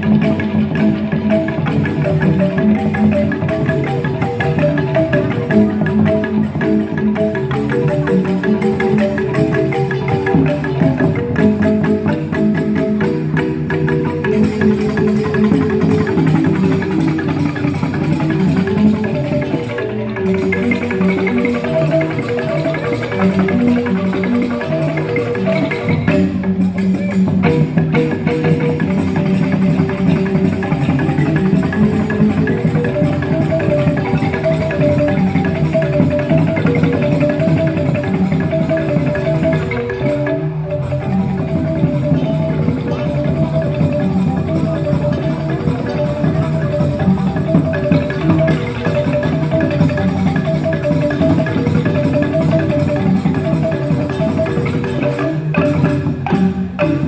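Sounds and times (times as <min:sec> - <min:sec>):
bamboo xylophones playing: 0:00.0 - 0:57.0
percussion: 0:00.0 - 0:57.0.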